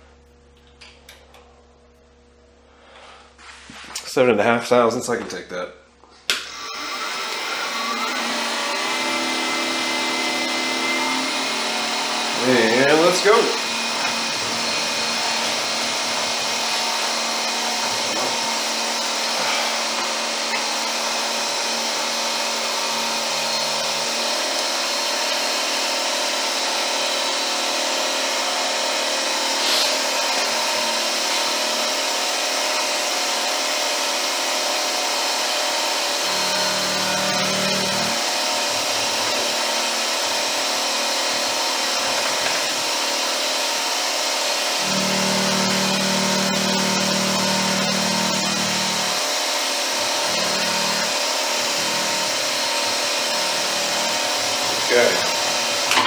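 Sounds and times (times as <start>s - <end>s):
milling machine cutting metal: 6.4s - 56.0s.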